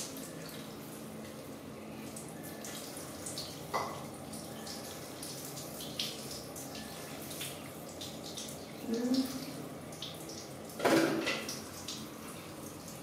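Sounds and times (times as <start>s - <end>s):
water dripping: 0.0s - 13.0s.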